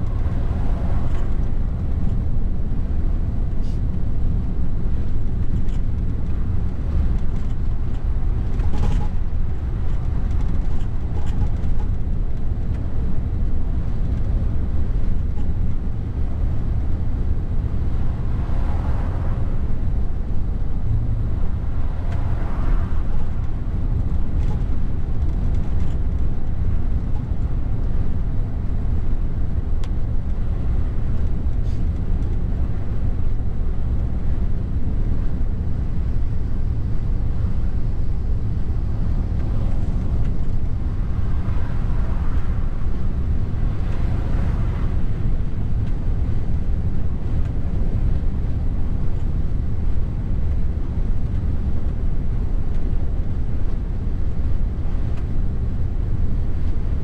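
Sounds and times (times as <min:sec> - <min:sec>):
truck cab engine and tyre drone: 0:00.0 - 0:57.0.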